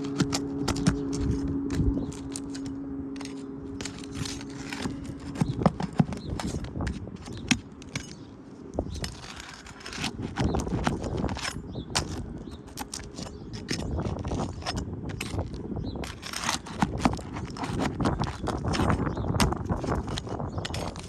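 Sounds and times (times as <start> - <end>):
shingles crackling and scraping: 0.0 - 21.0.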